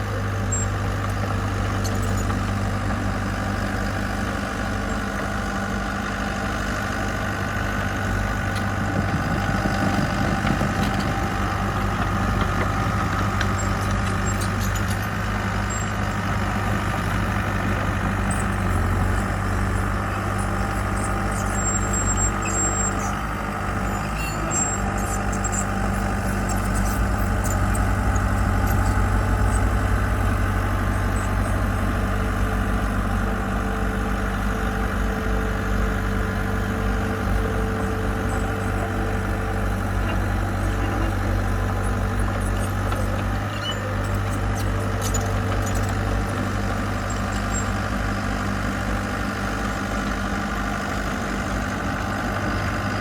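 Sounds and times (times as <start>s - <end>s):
heavy diesel engine running: 0.0s - 53.0s.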